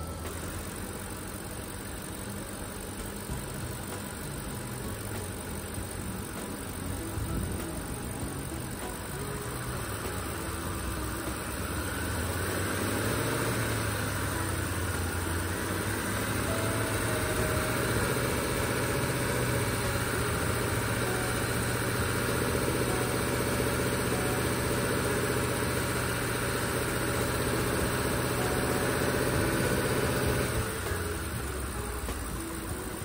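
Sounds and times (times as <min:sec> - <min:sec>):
air conditioning compressor running: 0:00.0 - 0:33.0
car engine idling: 0:00.0 - 0:33.0.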